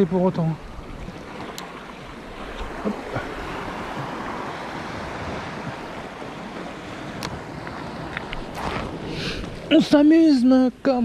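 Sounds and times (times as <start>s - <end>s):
surf against rocky shore: 0.0s - 11.0s
wind on microphone: 0.7s - 9.7s.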